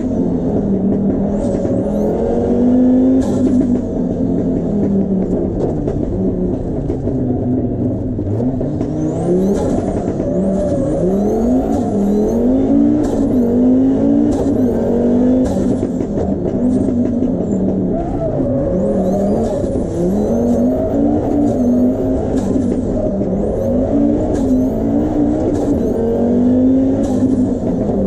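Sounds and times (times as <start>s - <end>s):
rally car engine accelerating: 0.0s - 28.0s.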